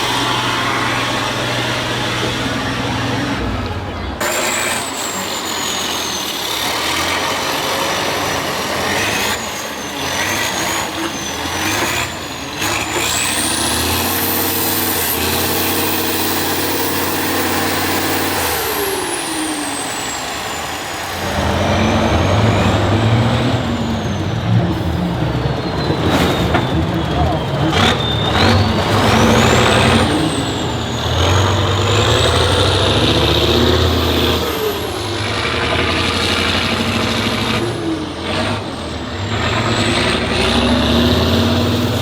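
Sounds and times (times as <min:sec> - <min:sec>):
high whistle with engine revs: 0:00.0 - 0:42.0
truck engine working hard: 0:00.0 - 0:42.0.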